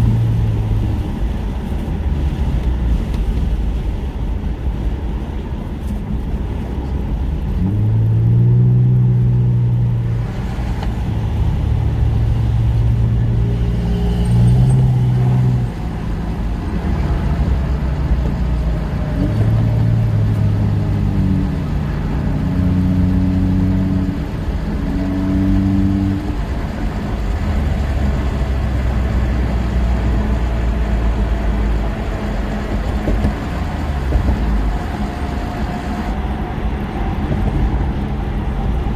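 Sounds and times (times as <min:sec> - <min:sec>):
engine and road noise: 0:00.0 - 0:38.9
low engine hum: 0:00.0 - 0:38.9.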